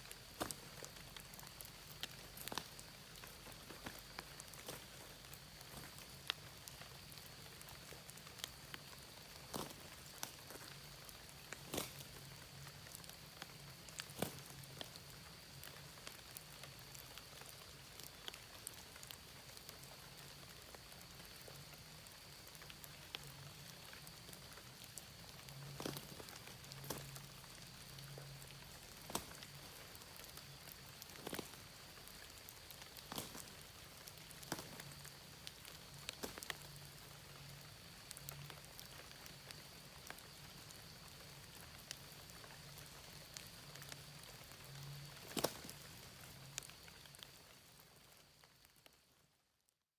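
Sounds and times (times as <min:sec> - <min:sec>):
rainwater dripping: 0:00.0 - 0:49.2.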